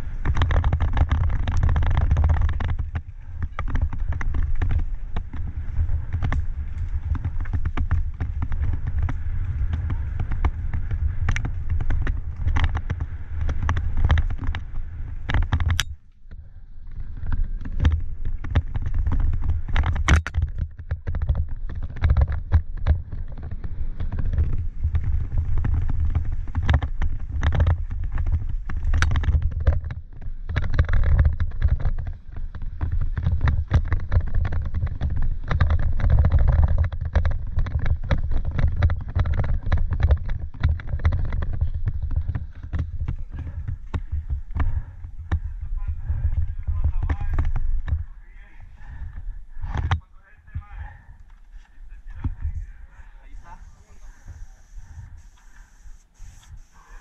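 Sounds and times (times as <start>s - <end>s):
bike knocking and rattling: 0.0s - 57.0s
wind and tyres on dirt rumble: 0.0s - 57.0s.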